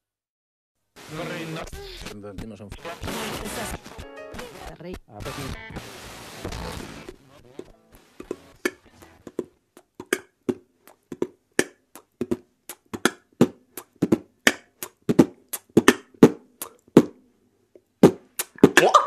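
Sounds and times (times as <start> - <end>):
beatboxed mouth percussion: 1.6 - 5.8, 7.1 - 17.2, 17.8 - 19.0.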